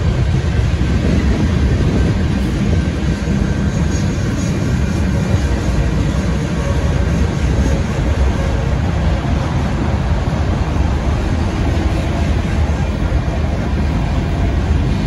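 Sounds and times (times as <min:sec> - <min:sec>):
freight train rolling: 0:00.0 - 0:15.0.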